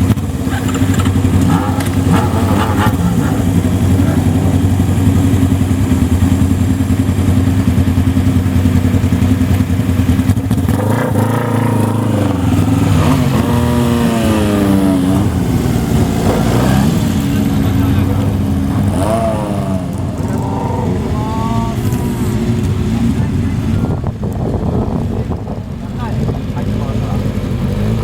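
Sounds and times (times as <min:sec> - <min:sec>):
motorcycle engines idling: 0:00.0 - 0:28.0
motorcycle revving: 0:00.0 - 0:28.0
motorcycle riding past: 0:00.0 - 0:28.0.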